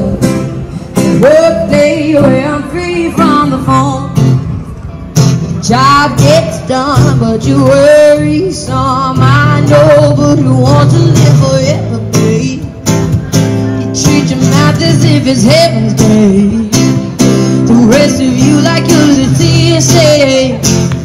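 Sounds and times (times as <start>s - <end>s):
acoustic guitar strumming: 0.0s - 21.0s
woman singing into microphone: 1.0s - 4.4s, 5.6s - 12.8s, 13.7s - 21.0s.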